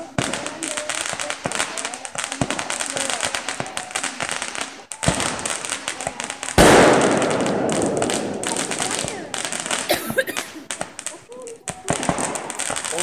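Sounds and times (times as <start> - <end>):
fireworks crackling pops: 0.0 - 13.0
loud rush of fireworks noise: 0.0 - 13.0.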